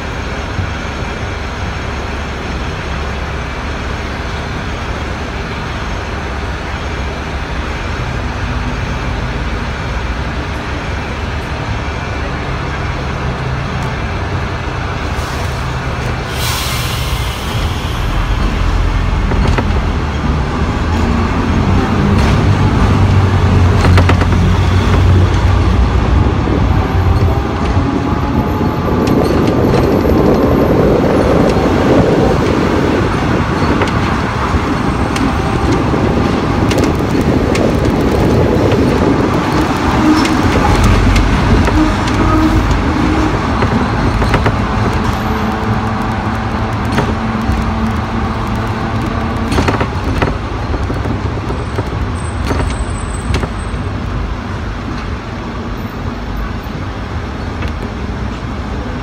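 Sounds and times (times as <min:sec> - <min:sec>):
steel wheels rumbling on rails: 0:00.0 - 0:59.0.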